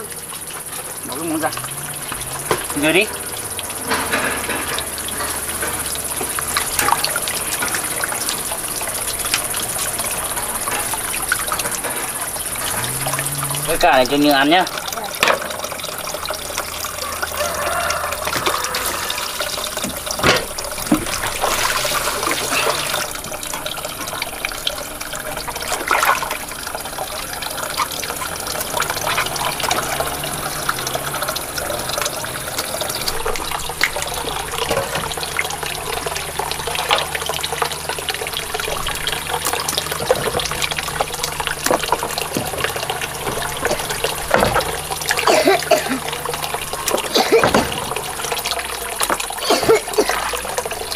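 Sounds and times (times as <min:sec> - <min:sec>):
water trickling and splashing: 0:00.0 - 0:50.9.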